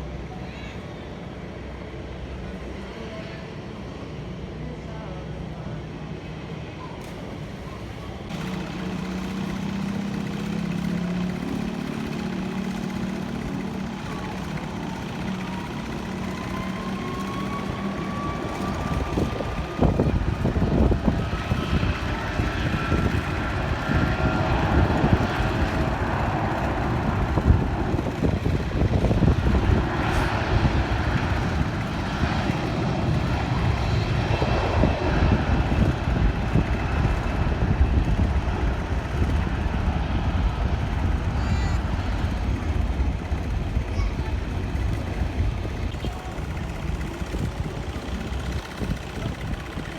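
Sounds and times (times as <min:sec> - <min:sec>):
jet engine whine: 0:00.0 - 0:49.9
fluttering jet rumble: 0:06.6 - 0:49.9.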